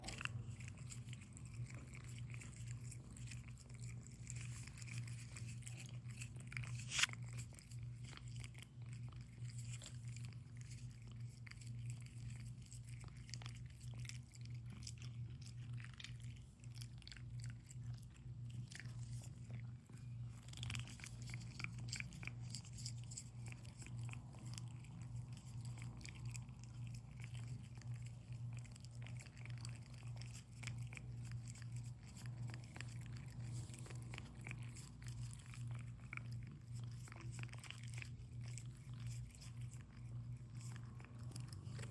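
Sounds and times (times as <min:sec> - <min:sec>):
cat licking wetly: 0:00.0 - 0:41.9
steady low hum: 0:00.0 - 0:41.9.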